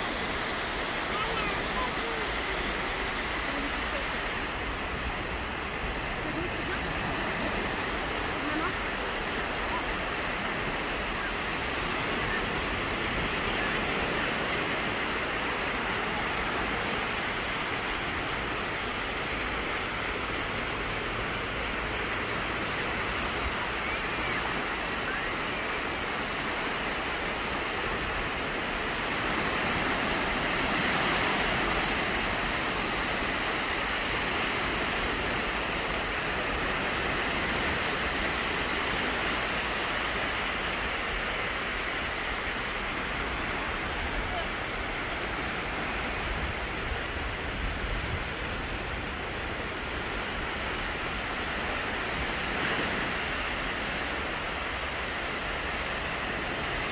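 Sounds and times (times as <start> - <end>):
small waves breaking on beach: 0.0 - 56.9.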